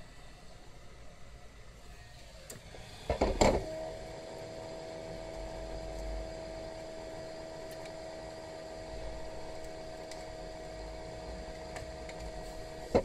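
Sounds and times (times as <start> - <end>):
small electric motor humming: 1.5 - 13.0.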